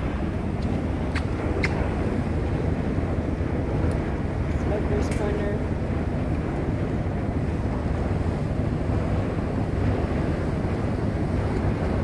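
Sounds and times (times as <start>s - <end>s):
sea washing along hull: 0.0s - 12.0s
wind on microphone: 0.0s - 12.0s.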